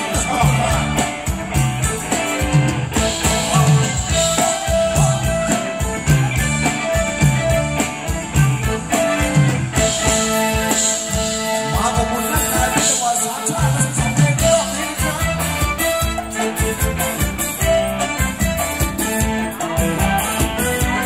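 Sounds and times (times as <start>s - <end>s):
live band playing dance music: 0.0s - 21.0s.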